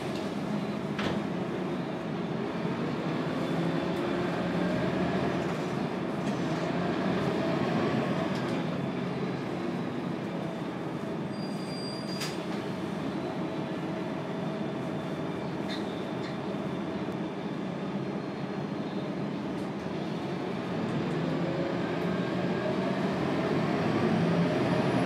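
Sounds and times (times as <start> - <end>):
bus diesel engine running: 0.0 - 11.3, 12.5 - 25.0
road noise: 0.0 - 11.3, 12.2 - 25.0.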